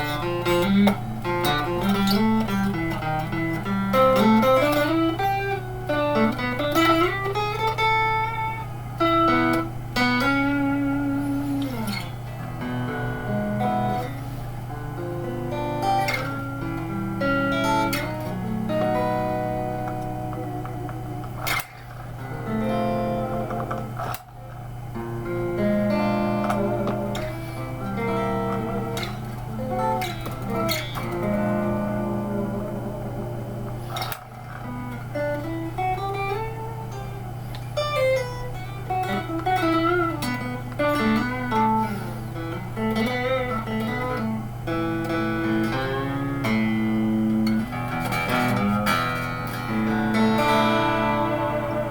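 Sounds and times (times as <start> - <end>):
clean electric guitar melody: 0.0 - 51.9
steady low hum: 0.0 - 51.9.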